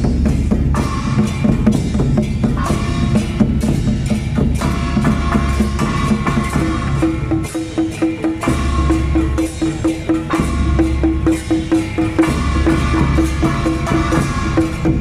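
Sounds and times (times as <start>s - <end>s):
hand gongs struck in steady beat: 0.0s - 15.0s.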